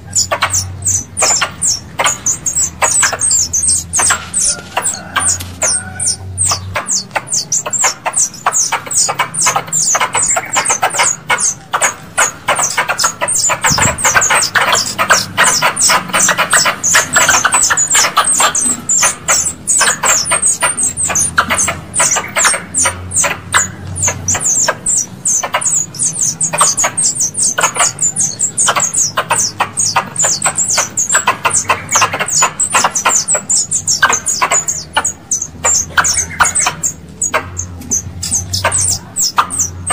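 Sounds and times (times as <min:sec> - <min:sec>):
squirrel chattering: 0:00.0 - 0:39.9.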